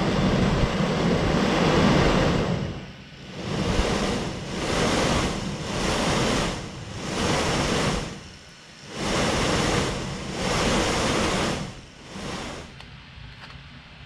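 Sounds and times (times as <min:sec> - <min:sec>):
motor spinning fan blade: 0:00.0 - 0:14.0.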